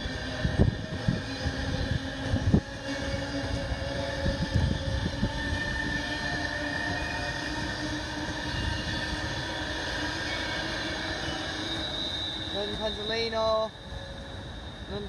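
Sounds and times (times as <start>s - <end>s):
electric train passing at speed: 0.0s - 15.0s
wheels on rail: 0.0s - 15.0s.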